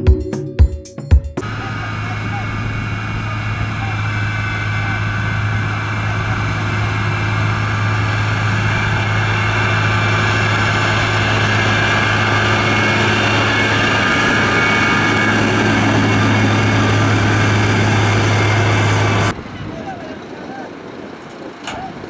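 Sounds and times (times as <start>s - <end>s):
diesel engine low drone: 1.4s - 22.0s.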